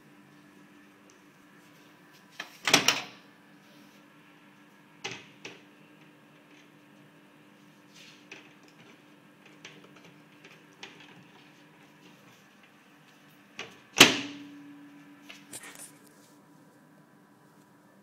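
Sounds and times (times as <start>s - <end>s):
steady low hum: 3.2s - 18.0s.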